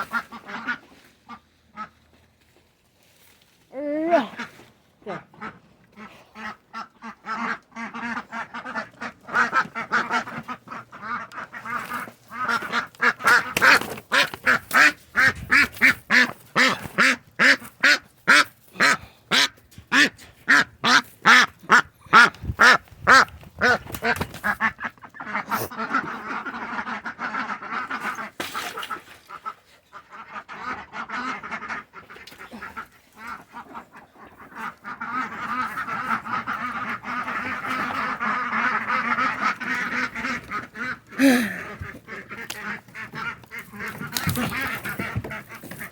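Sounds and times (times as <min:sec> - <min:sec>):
ducks quacking: 0:00.0 - 0:02.2, 0:04.2 - 0:45.9.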